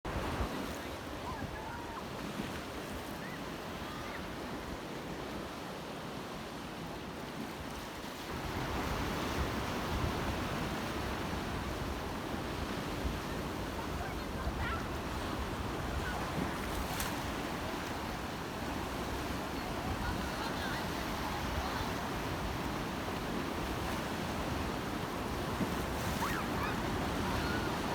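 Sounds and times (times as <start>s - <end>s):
waves washing onto shore: 0.1s - 27.9s.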